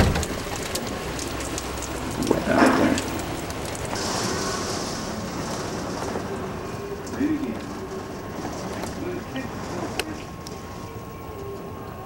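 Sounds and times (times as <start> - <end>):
heavy rain pouring: 0.0 - 12.0
higher steady hiss: 0.0 - 12.0
rain taps: 0.0 - 12.0.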